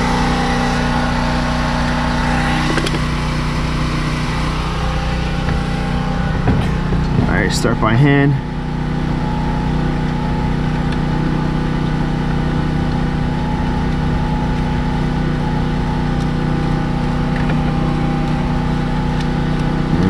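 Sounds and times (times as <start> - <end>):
engine humming steadily: 0.0 - 20.0.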